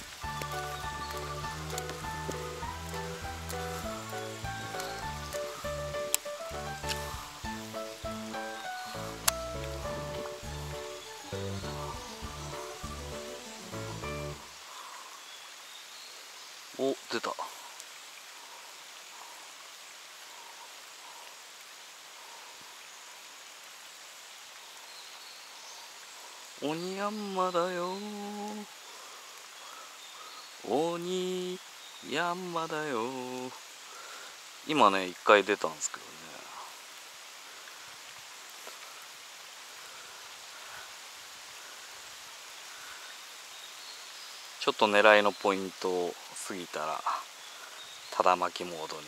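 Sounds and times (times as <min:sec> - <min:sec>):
rain falling on water: 0:00.0 - 0:49.0.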